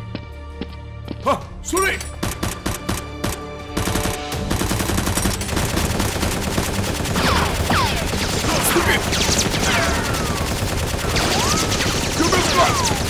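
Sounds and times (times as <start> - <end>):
automatic gunfire sound effects: 2.2 - 13.0.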